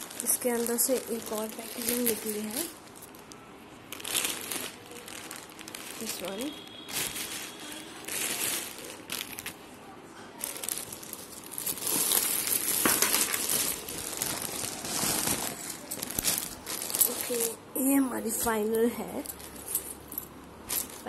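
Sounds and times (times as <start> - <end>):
plastic bags crinkling: 0.0 - 9.7, 10.4 - 21.0.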